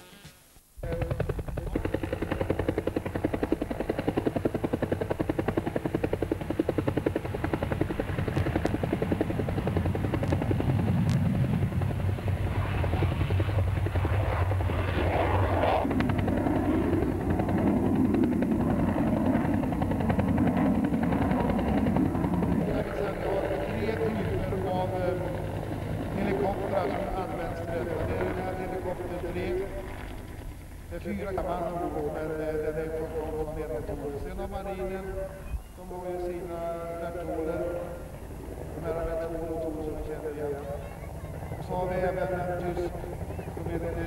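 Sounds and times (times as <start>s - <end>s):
helicopter rotor beating: 0.8s - 44.0s.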